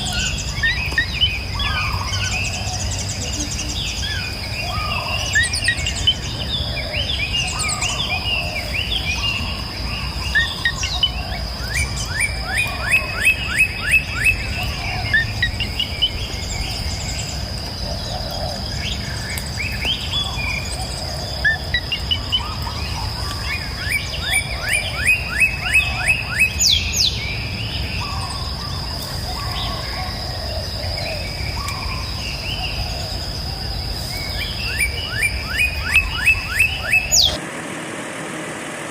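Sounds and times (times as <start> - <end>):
birds calling: 0.0 - 38.9
insect drone: 0.0 - 38.9.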